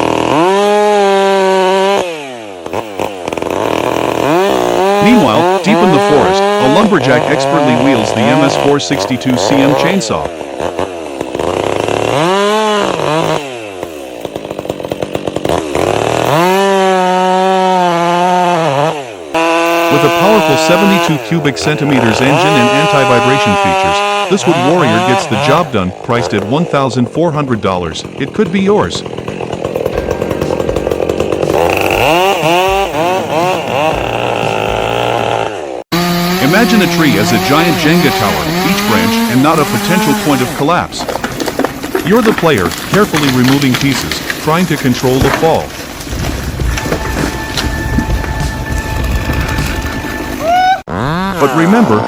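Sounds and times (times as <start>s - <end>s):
chainsaw revving and idling: 0.0s - 52.0s.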